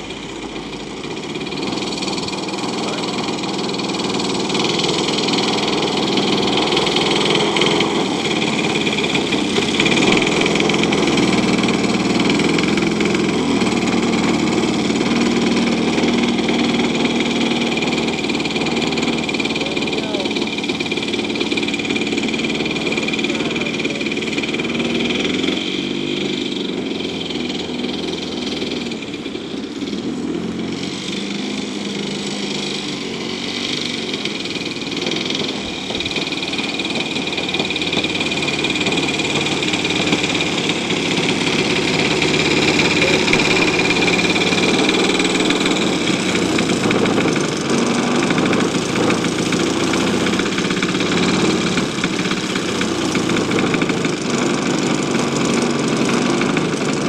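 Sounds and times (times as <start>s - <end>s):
two-stroke model engine running: 0.0s - 57.0s.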